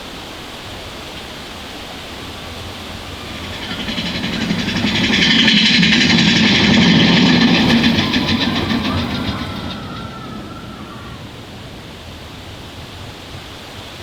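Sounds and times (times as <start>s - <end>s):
roller coaster wheels clattering: 1.1s - 14.0s.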